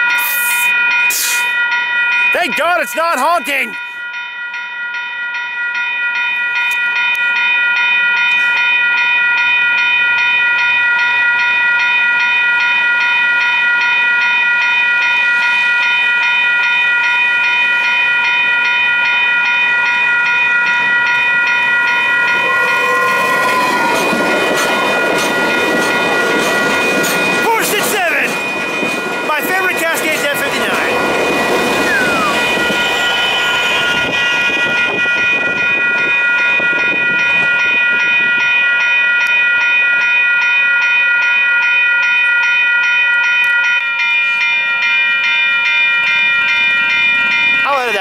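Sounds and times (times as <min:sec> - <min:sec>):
crossing warning bell: 0:00.0 - 0:48.0
passing train rumble and wheels: 0:06.1 - 0:48.0.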